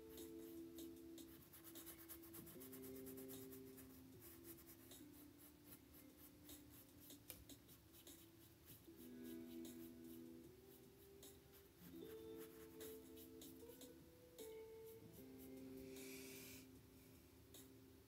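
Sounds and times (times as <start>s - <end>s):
soft background music chords: 0.0s - 18.0s.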